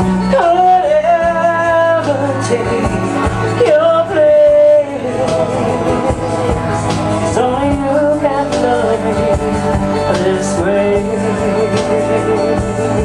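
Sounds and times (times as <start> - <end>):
country song: 0.0 - 13.0
plucked guitar melody: 0.0 - 13.0.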